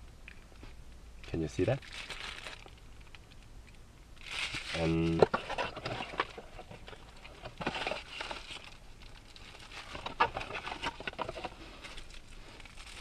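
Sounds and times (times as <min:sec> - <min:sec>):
plastic packaging rustling: 0:01.2 - 0:03.4, 0:04.2 - 0:13.0.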